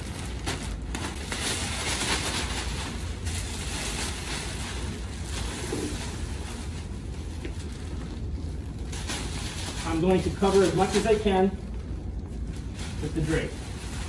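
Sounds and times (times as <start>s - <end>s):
plastic drape rustling: 0.0s - 14.0s
steady low hum: 0.0s - 14.0s.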